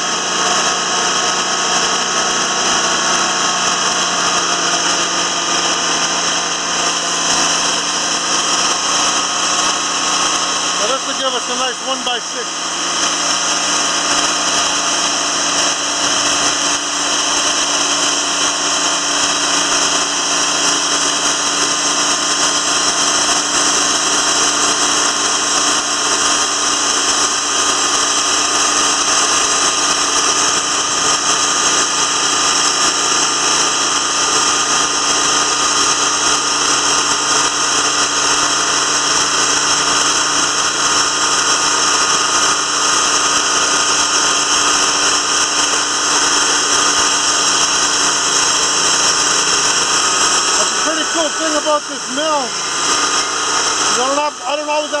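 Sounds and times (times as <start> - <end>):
band sawmill sawing log: 0.0 - 55.0.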